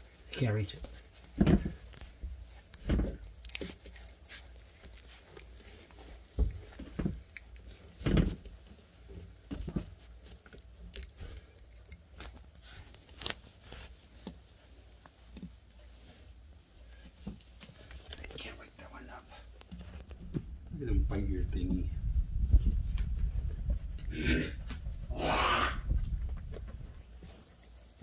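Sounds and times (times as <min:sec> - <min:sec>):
puppies scuffling: 0:00.0 - 0:18.2, 0:19.6 - 0:25.1.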